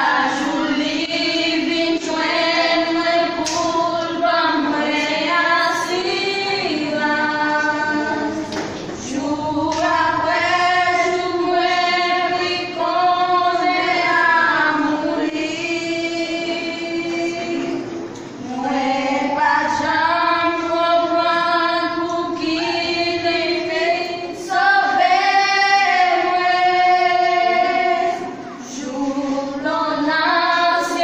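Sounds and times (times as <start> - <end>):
women singing a gospel hymn: 0.0 - 31.0.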